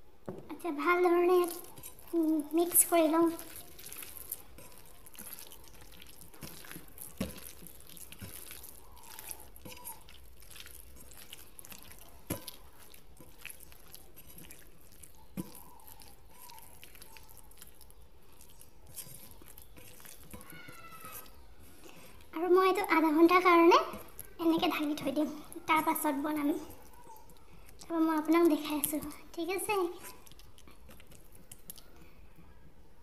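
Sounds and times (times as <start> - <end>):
soft wet squelches of meat: 0.7 - 33.0.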